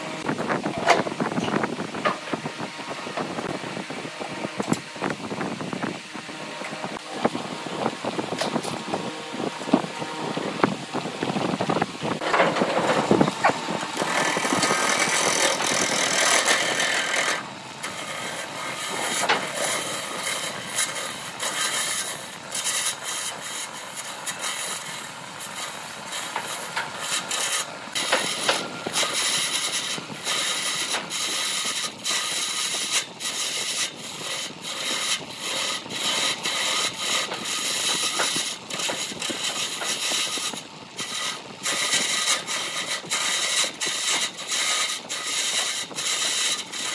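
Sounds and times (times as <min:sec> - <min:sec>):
lathe tool scraping wood: 0:00.0 - 0:46.9.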